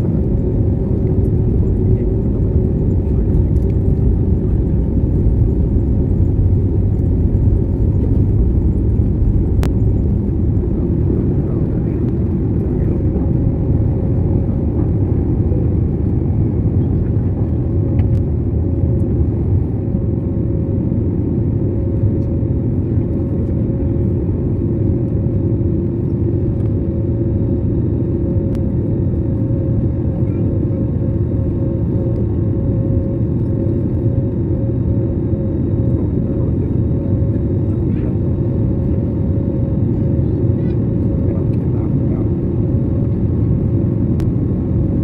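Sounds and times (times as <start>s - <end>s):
jet cabin low rumble: 0.0s - 45.0s.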